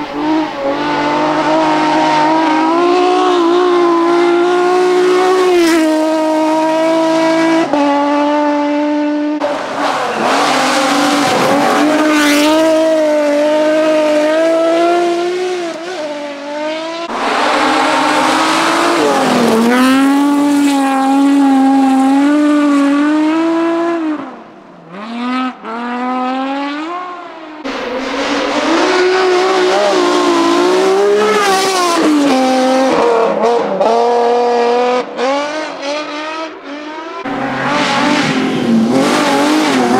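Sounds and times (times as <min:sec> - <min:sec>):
rally car engines revving: 0:00.0 - 0:39.9.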